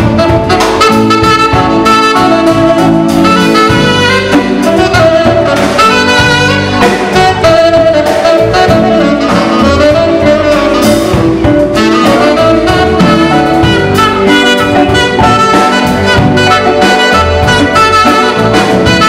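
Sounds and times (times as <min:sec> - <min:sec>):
live band playing: 0:00.0 - 0:19.0
saxophone melody: 0:00.0 - 0:19.0.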